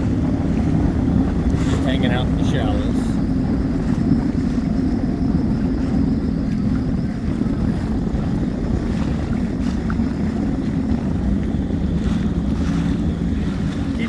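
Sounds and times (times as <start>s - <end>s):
jet ski engine idling: 0.0s - 14.0s.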